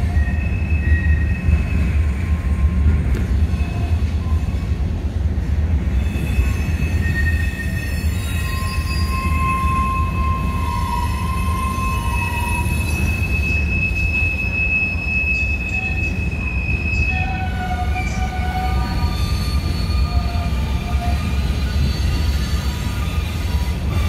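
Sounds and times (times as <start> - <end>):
train wheels squealing: 0.0 - 5.1, 5.8 - 24.0
freight train rumbling past: 0.0 - 24.0.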